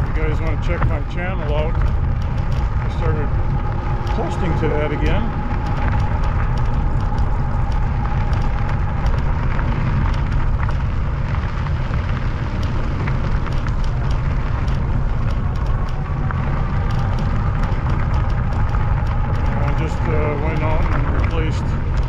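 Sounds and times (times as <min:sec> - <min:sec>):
bike tyre noise: 0:00.0 - 0:22.0
faint steady whine: 0:00.0 - 0:22.0
small ticks: 0:00.0 - 0:22.0
wind buffeting microphone: 0:00.0 - 0:22.0.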